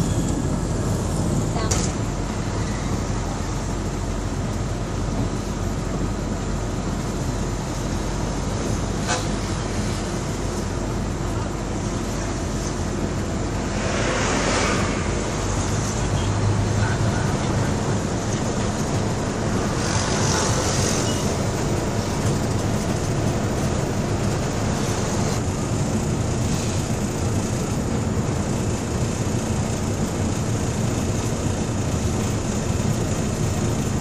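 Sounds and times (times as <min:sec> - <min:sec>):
bus engine drone: 0:00.0 - 0:34.0
road noise rumble: 0:00.0 - 0:34.0.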